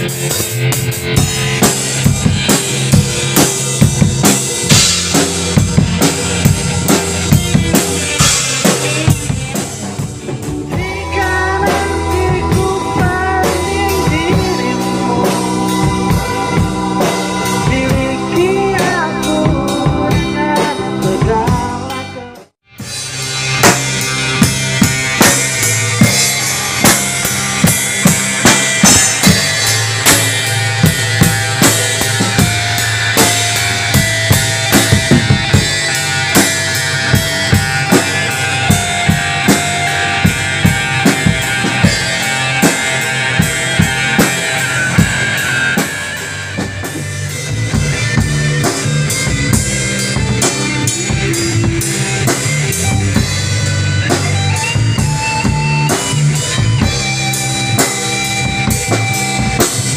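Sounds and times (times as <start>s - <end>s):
band playing: 0.0s - 59.9s.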